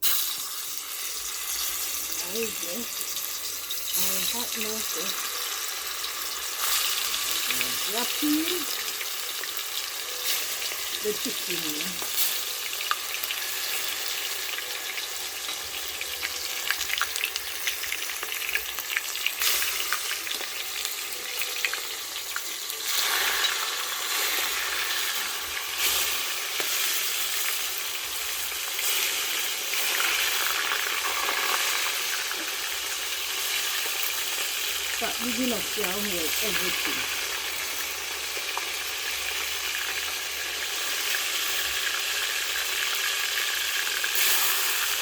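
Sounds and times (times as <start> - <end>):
chicken frying in hot oil: 0.0 - 45.0
oil crackling and popping: 0.0 - 45.0.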